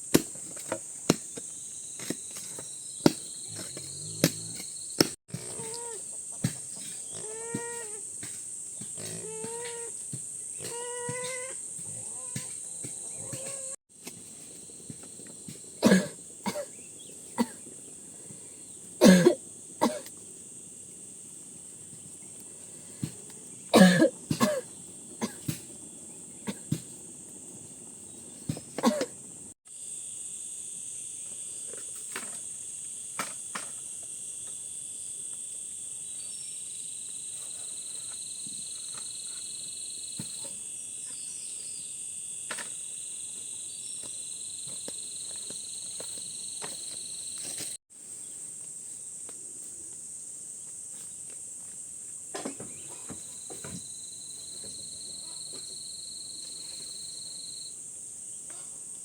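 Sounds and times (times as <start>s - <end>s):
high-pitched insect chorus: 0.0s - 59.0s
lower insect trill: 0.0s - 59.0s.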